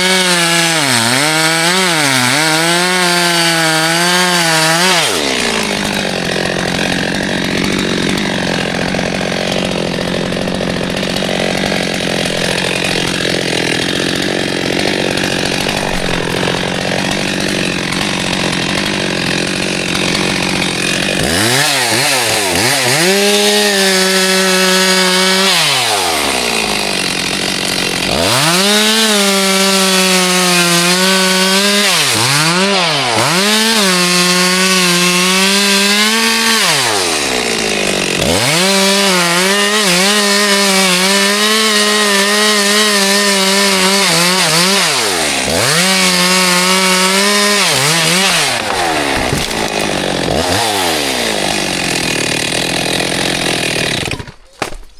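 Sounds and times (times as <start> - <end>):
chainsaw revving freely: 0.0 - 54.4
chainsaw cutting wood: 0.0 - 54.9.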